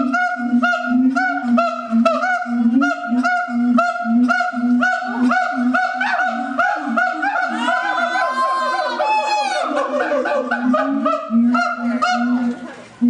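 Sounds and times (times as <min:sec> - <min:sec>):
primate calling with honking notes: 0:00.0 - 0:12.6.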